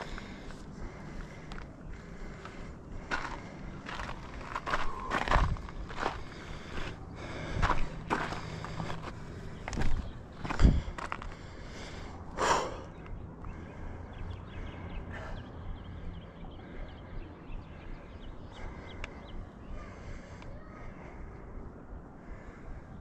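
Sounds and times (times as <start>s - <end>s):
person breathing hard: 0.0s - 23.0s.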